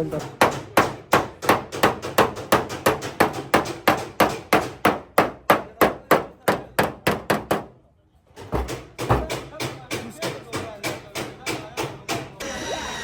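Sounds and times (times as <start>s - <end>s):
hammer beating sheet metal: 0.0s - 7.7s, 8.4s - 12.5s.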